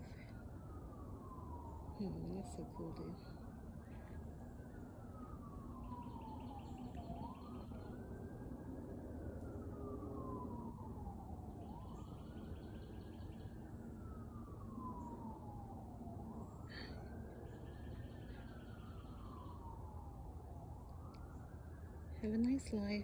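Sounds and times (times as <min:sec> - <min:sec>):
faint siren wailing: 0:00.0 - 0:23.0
low steady rumble: 0:00.0 - 0:23.0.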